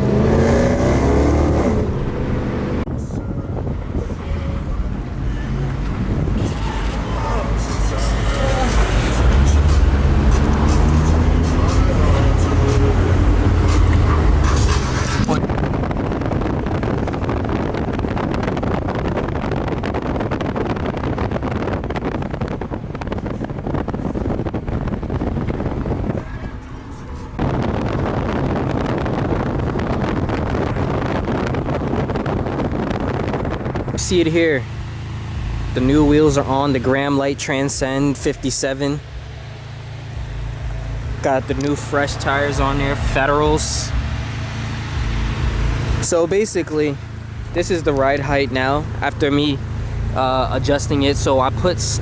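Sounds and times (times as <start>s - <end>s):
car engine accelerating hard: 0.0s - 52.0s
vehicle running at speed: 0.0s - 52.0s
wind noise: 0.0s - 52.0s.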